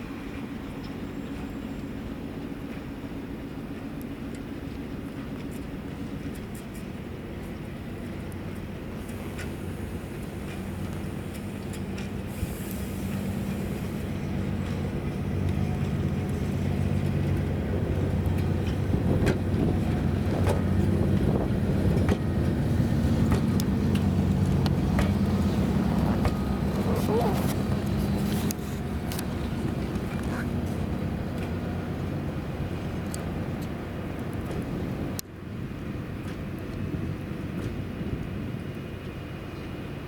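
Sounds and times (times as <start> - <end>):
electric locomotive hum: 0.0 - 40.0.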